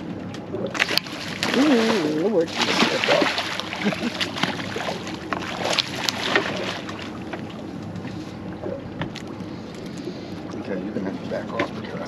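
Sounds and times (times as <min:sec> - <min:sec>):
wind and water noise: 0:00.0 - 0:12.0
fish thrashing splashes: 0:00.6 - 0:10.7.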